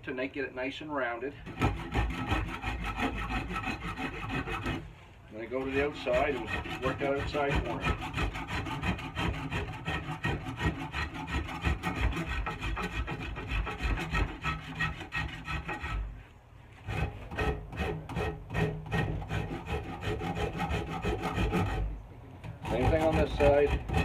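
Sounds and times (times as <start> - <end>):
hand tool rasping wood: 1.4 - 4.9, 5.5 - 16.2, 16.8 - 21.9, 22.5 - 24.0.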